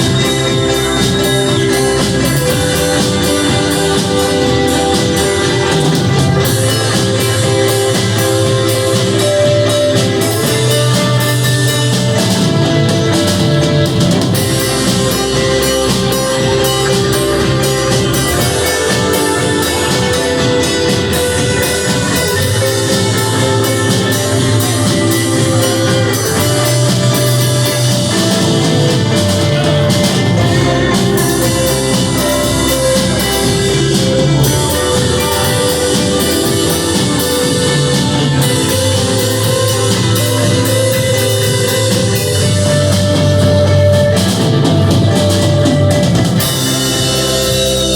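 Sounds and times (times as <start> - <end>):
drum kit: 0.0 - 47.9
guitar: 0.0 - 47.9
rock band playing: 0.0 - 47.9.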